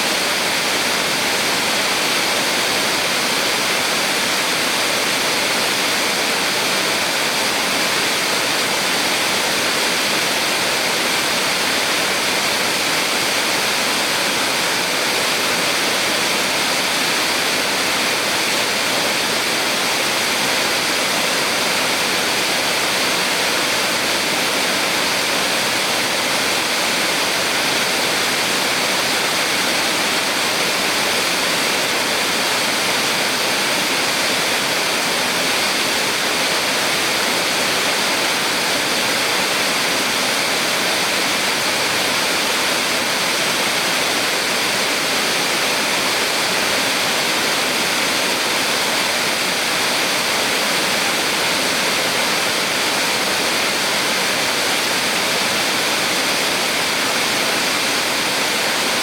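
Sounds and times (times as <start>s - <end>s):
small waterfall rushing: 0.0s - 59.0s.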